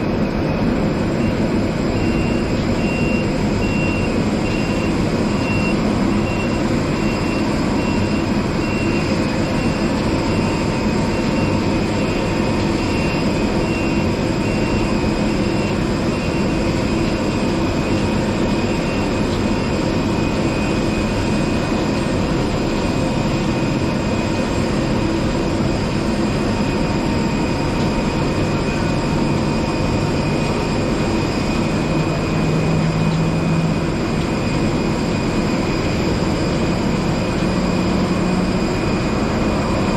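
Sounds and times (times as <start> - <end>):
high steady whining tones: 0.0 - 39.9
low machinery hum: 0.0 - 39.9.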